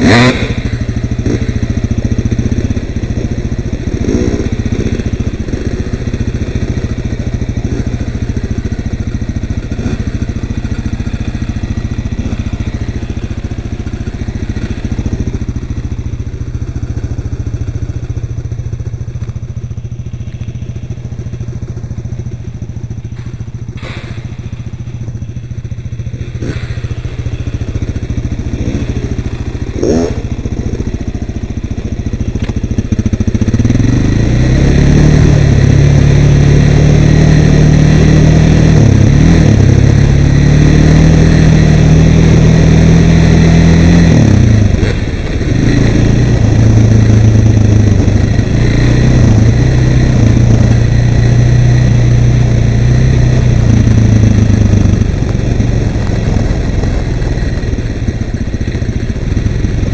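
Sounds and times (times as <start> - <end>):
quad bike engine revving: 0.0 - 19.0, 23.2 - 59.9.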